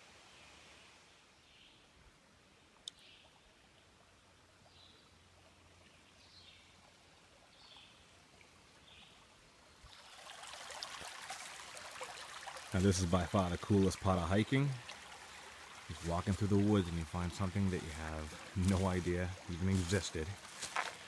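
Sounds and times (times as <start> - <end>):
stream water running: 2.1 - 21.0.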